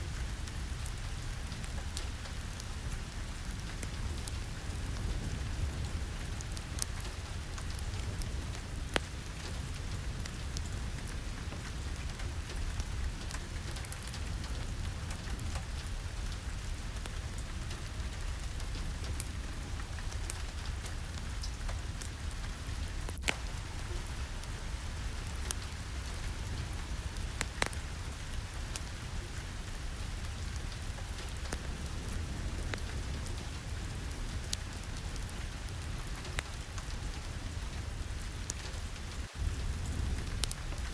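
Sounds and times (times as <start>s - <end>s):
steady rain falling: 0.0s - 40.9s
sharp ticks and pops: 0.4s - 24.6s, 25.3s - 29.0s, 30.2s - 33.5s, 38.4s - 40.9s.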